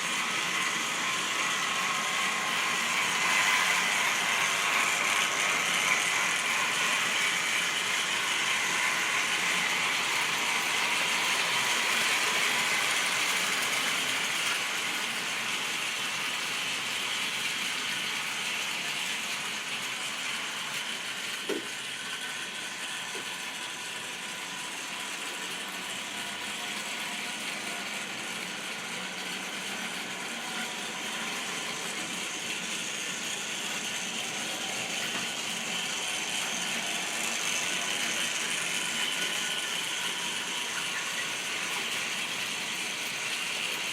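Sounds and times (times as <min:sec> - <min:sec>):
model train motor whirring: 0:00.0 - 0:43.9.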